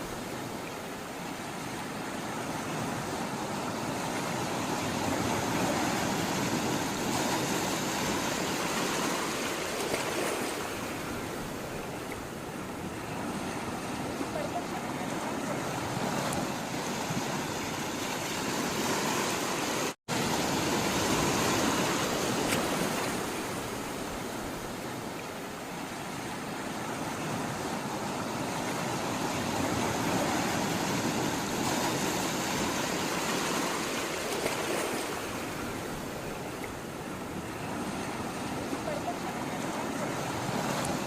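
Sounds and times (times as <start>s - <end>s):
sea water rushing: 0.0s - 41.0s.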